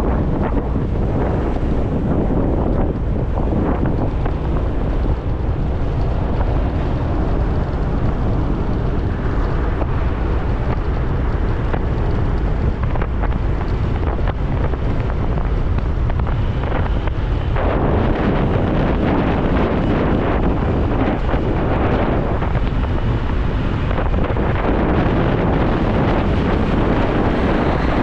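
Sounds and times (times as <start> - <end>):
motorcycle engine and road noise: 0.0 - 28.0
wind rushing over microphone: 0.0 - 28.0.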